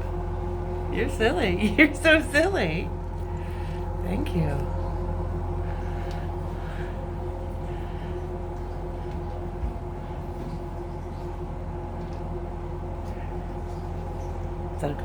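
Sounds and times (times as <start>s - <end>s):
constant hum: 0.0s - 15.0s
steady low rumble: 0.0s - 15.0s.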